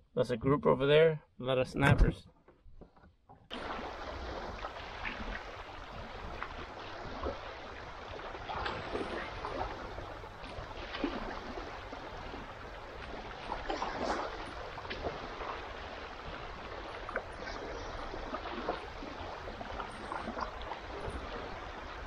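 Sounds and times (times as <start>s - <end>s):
water lapping against boat hull: 2.4s - 22.0s.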